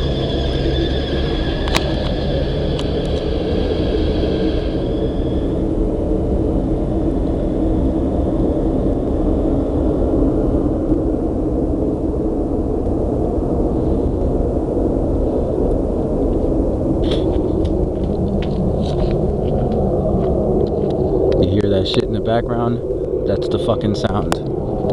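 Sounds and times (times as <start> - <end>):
low rumble-hum: 0.0 - 24.9.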